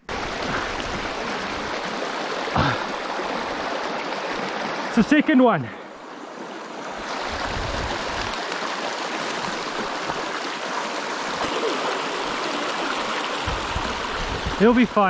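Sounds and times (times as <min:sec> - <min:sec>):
stream rushing over stones: 0:00.0 - 0:15.0.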